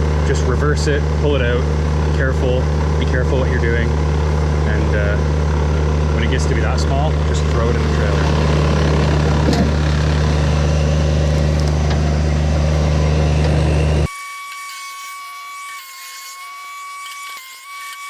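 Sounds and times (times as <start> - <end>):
wood chipper drone: 0.0 - 18.0.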